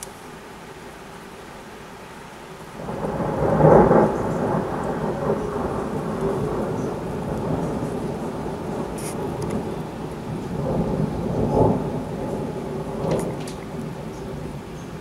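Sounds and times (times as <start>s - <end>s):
steady rain: 0.0s - 15.0s
thunder rumbling: 2.7s - 15.0s.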